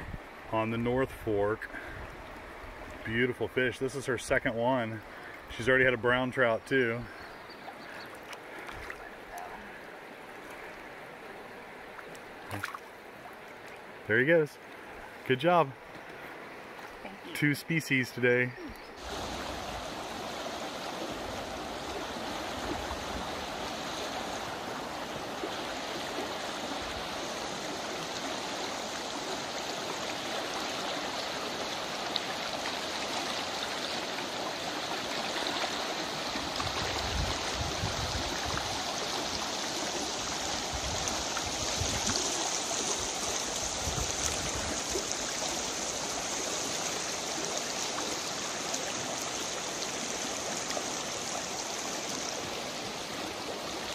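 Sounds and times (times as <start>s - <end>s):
river rushing over riffle: 7.8s - 53.9s.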